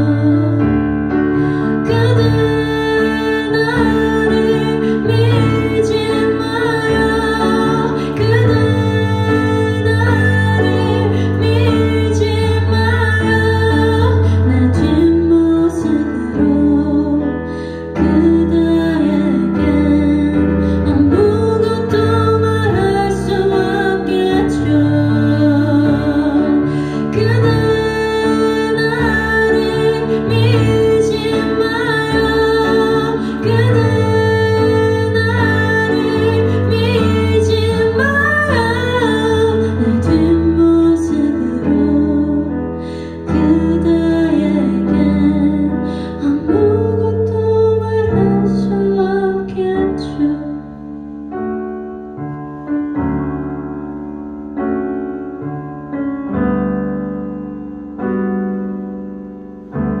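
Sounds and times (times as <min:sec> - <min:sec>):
woman singing slow song: 0:00.0 - 0:50.9
piano chords: 0:00.0 - 1:00.0.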